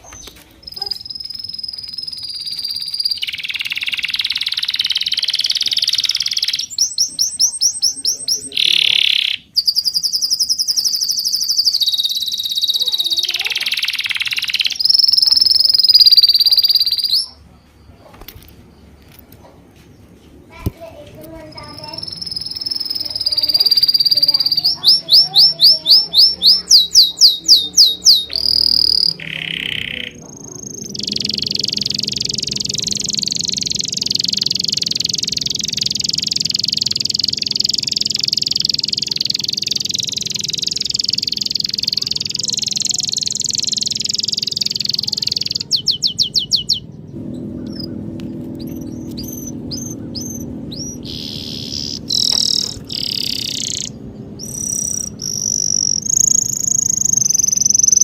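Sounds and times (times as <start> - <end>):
bird buzzing trill: 0.0 - 17.3, 20.9 - 58.0
background bird chorus: 0.0 - 58.0
birds chirping: 0.0 - 58.0.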